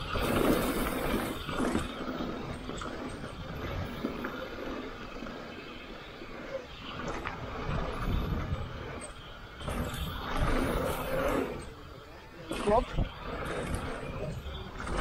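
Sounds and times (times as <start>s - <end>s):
bike knocking and rattling: 0.0s - 15.0s
bike tyres rolling on dirt: 0.0s - 15.0s
wind rushing over camera: 0.0s - 15.0s.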